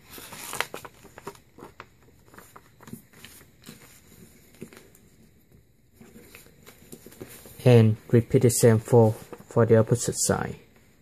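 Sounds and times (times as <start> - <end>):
paper rustling and folding: 0.0 - 7.7, 8.5 - 10.1.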